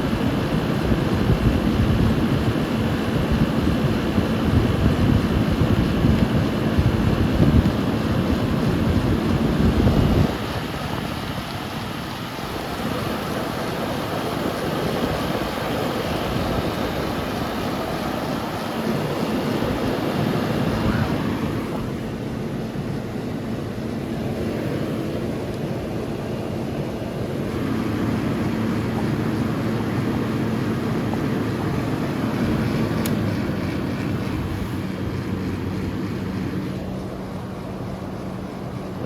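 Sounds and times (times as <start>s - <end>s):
air conditioner fan rushing: 0.0s - 39.0s
compressor low hum: 0.0s - 39.0s.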